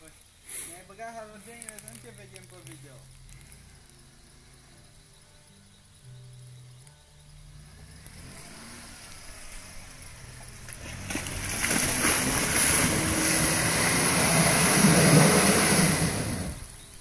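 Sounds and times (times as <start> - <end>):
off-road vehicle engine revving: 2.8 - 16.9.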